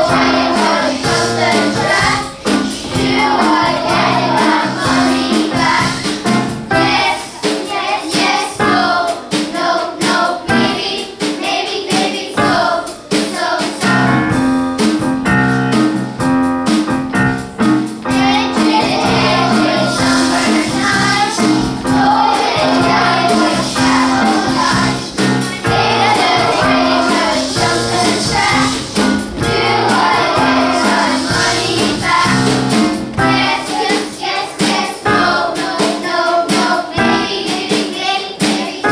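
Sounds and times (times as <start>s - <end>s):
children's choir singing: 0.0s - 14.3s, 18.0s - 38.9s
instrumental accompaniment with beat: 0.0s - 38.9s.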